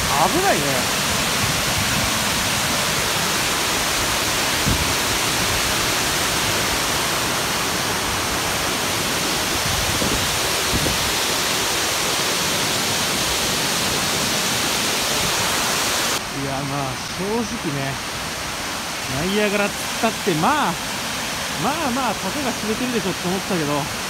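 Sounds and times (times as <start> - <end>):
water rushing over a weir: 0.0 - 24.0.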